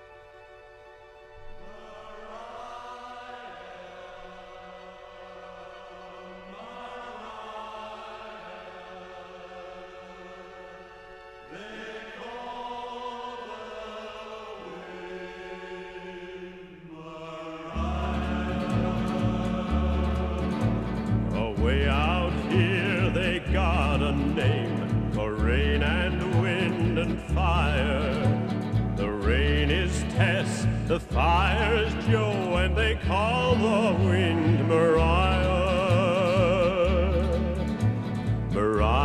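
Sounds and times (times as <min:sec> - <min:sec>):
orchestra: 0:00.0 - 0:14.3, 0:17.8 - 0:39.0
choir holding long chords: 0:00.0 - 0:39.0.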